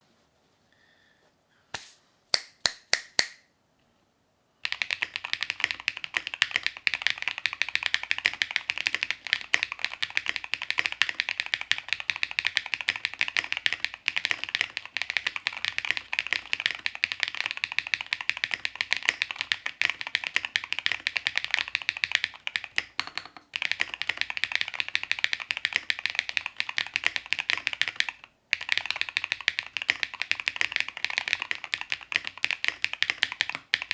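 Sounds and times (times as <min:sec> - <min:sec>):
mechanical keyboard typing: 0:04.6 - 0:33.9.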